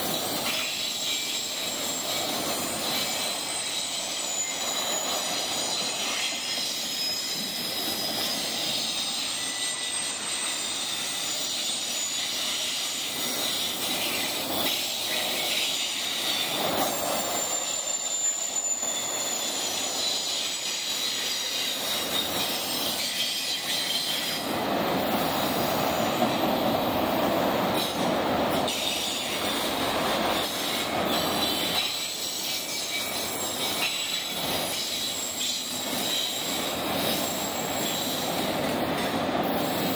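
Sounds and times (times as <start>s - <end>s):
train wheels rumbling on rail: 0.0s - 39.9s
high-pitched wheel squeal: 0.4s - 39.9s.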